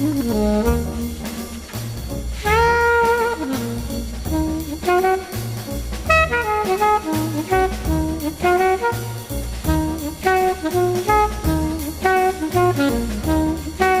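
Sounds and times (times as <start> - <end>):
horn melody: 0.0 - 14.0
pulsing bass line: 0.0 - 14.0.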